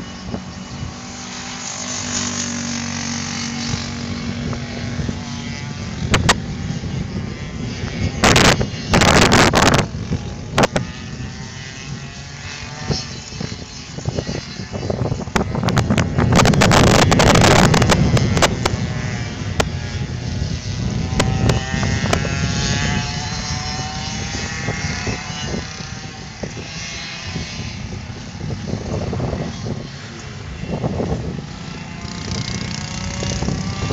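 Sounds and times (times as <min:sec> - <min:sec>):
go-kart engine revving: 0:00.0 - 0:33.9
wind rumbling on microphone: 0:00.0 - 0:33.9.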